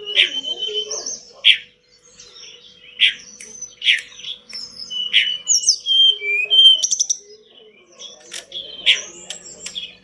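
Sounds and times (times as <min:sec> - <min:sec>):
loud sharp bird chirps: 0:00.0 - 0:10.0.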